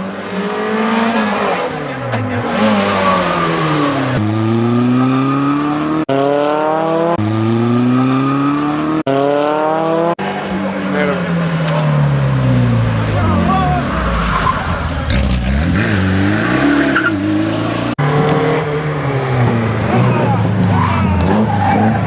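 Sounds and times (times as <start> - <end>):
rally car engines revving: 0.0 - 22.0.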